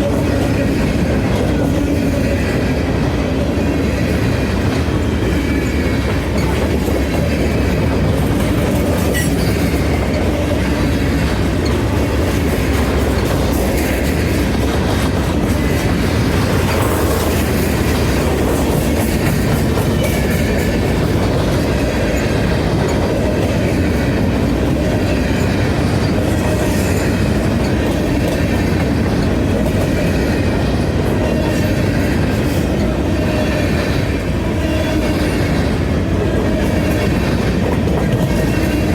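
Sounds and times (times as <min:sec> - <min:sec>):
freight train rumbling: 0:00.0 - 0:38.9
wheels clicking over rail joints: 0:00.0 - 0:38.9.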